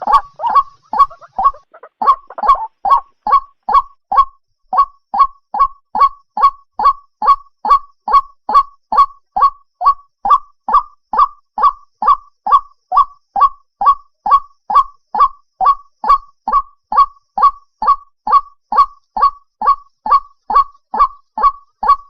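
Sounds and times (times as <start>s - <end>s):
bird call repeated: 0.0s - 22.0s.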